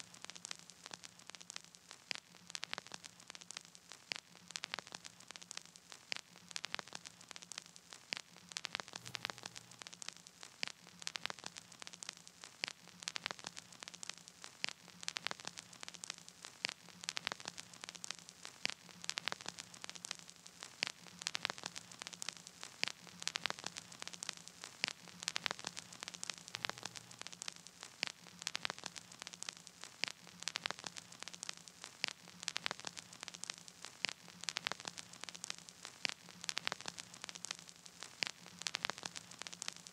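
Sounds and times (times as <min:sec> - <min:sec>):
crackling static clicks: 0:00.0 - 0:39.9
steady hiss: 0:00.0 - 0:39.9.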